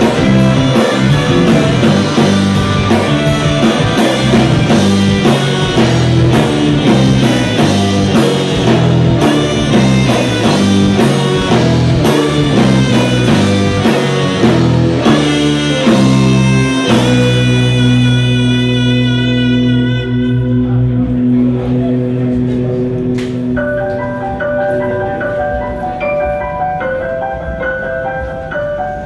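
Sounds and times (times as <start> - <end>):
drum kit: 0.0 - 28.8
bass: 0.0 - 29.0
electric guitar: 0.0 - 29.0
keyboard: 0.0 - 29.0.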